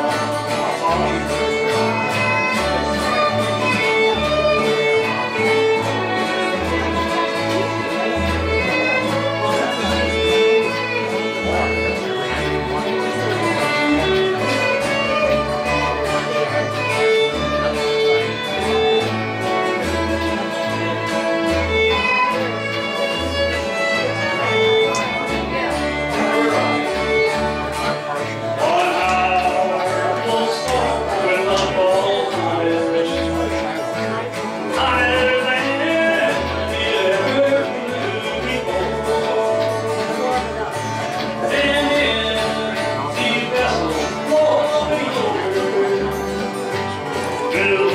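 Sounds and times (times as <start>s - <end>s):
fiddle melody: 0.0s - 47.9s
strummed acoustic guitar: 0.0s - 47.9s.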